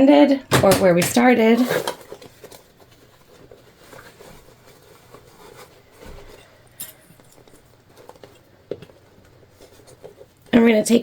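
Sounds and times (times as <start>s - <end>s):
vinyl and tape rustling: 0.4s - 11.0s.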